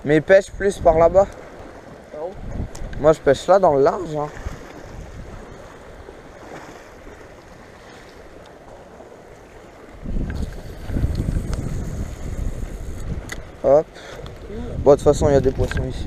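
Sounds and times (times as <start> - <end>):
wind buffeting microphone: 0.0 - 16.0
small waves washing on rocks: 1.0 - 14.6.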